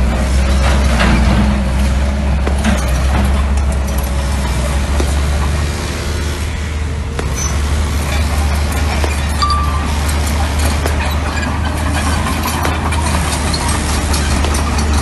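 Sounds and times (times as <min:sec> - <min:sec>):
bulldozer diesel engine: 0:00.0 - 0:15.0
metal clanks and scrapes: 0:00.4 - 0:05.5, 0:07.2 - 0:15.0.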